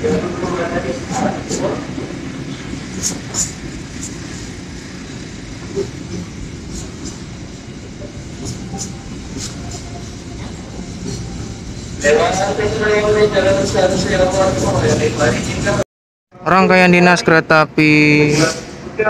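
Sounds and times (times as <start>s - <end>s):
train wheels rumbling on rail: 0.0s - 15.8s.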